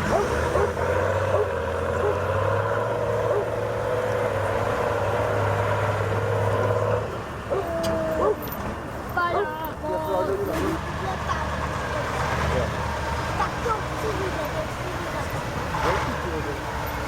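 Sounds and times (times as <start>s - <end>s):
truck engine running under load: 0.0s - 17.0s.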